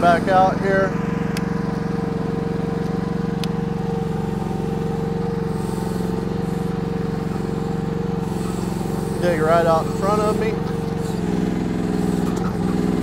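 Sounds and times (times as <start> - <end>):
excavator engine running: 0.0 - 13.0
hydraulics working: 0.0 - 13.0.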